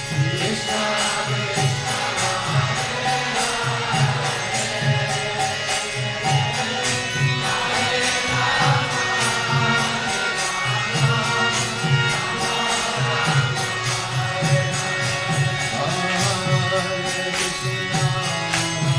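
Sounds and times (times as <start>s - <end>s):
devotional chanting: 0.0s - 18.9s
hand cymbal strikes: 0.0s - 18.9s.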